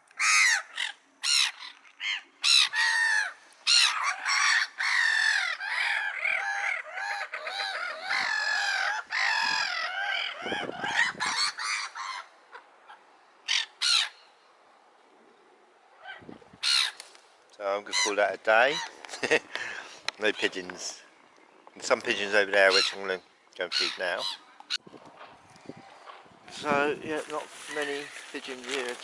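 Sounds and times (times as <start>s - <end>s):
gulls calling: 0.1s - 14.4s, 15.2s - 24.9s.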